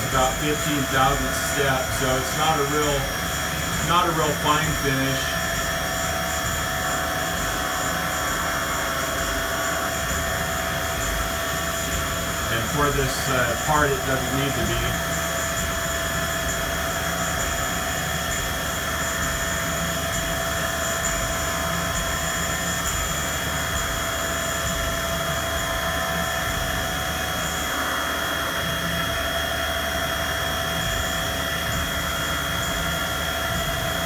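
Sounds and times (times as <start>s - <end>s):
milling spindle whine: 0.0s - 34.0s.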